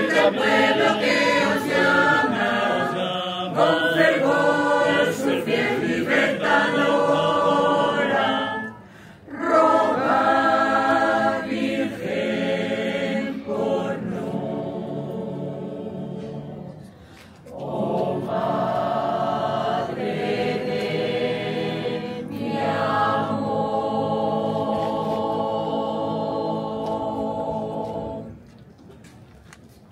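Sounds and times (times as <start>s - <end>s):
group singing a hymn: 0.0s - 28.5s.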